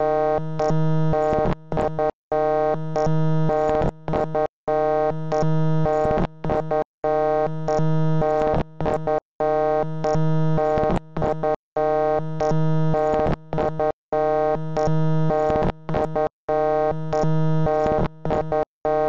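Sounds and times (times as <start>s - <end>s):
looping buzzy synth tone: 0.0s - 19.0s.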